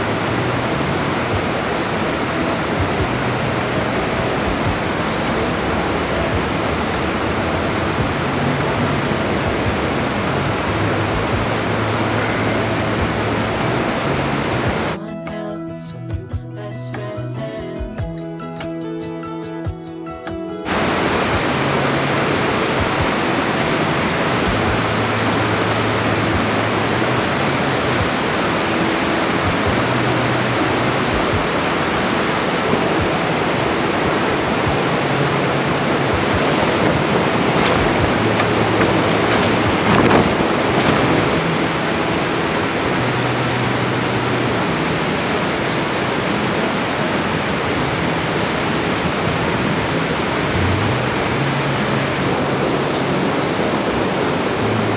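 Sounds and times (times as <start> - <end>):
rushing stream water: 0.0 - 15.0, 20.7 - 54.9.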